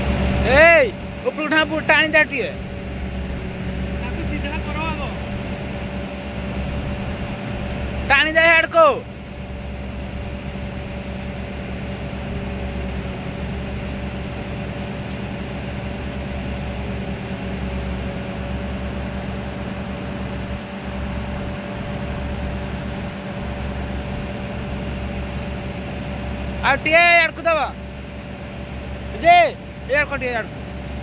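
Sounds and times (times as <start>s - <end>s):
diesel engine drone: 0.0s - 31.0s
steady engine whine: 0.0s - 31.0s.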